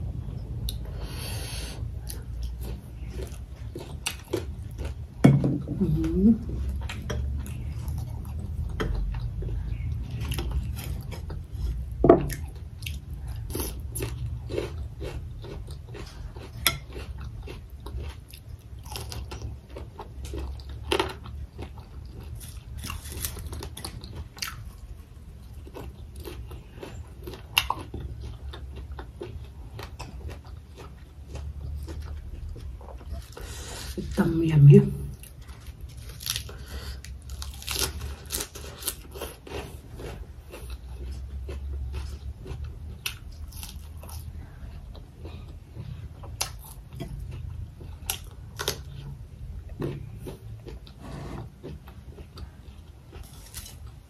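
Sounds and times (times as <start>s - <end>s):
steady low hum: 0.0s - 54.0s
chewing crunchy food: 1.9s - 5.2s, 6.0s - 34.2s, 35.1s - 54.0s.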